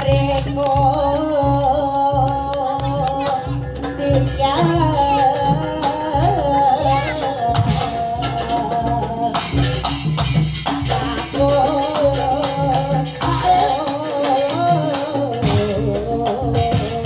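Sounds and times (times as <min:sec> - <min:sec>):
low drum beat: 0:00.0 - 0:17.0.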